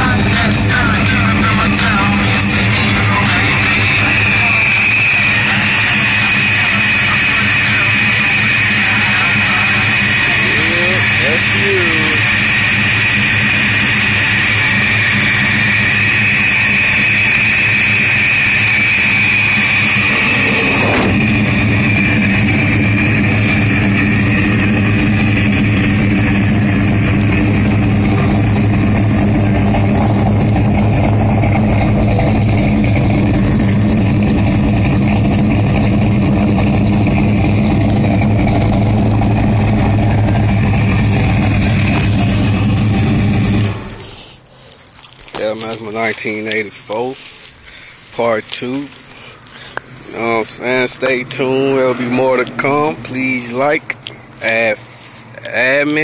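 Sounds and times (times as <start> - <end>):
loud car engine running: 0.0 - 44.4, 45.0 - 56.0.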